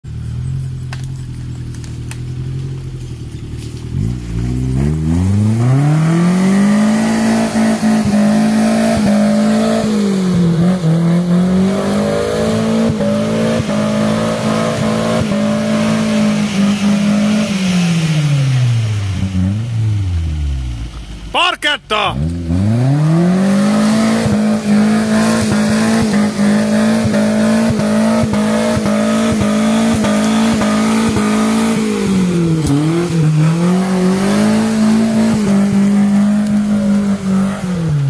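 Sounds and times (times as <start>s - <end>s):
off-road vehicle engine revving: 0.2s - 21.2s, 22.2s - 38.0s.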